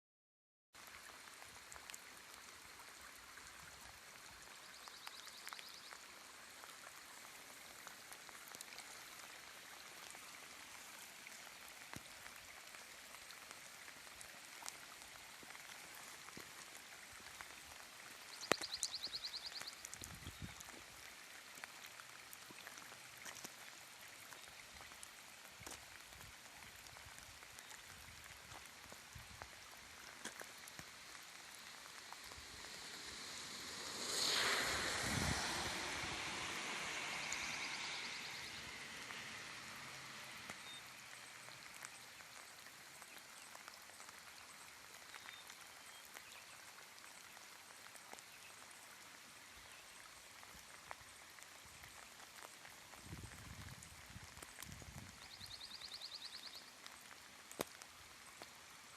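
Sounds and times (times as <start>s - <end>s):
rain falling: 0.8s - 58.9s
runoff water flowing: 0.8s - 58.9s.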